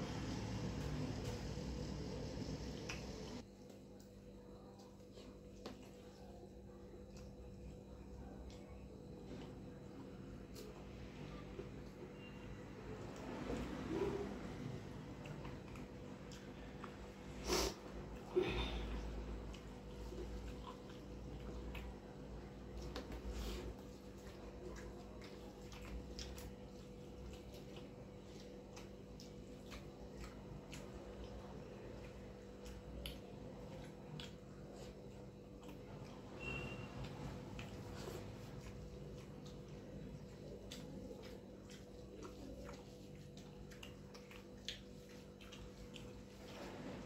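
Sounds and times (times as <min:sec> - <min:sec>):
faint steady hum: 0:00.0 - 0:47.0
wet squishes of hand eating: 0:00.0 - 0:47.0
mouth chewing: 0:00.3 - 0:47.0.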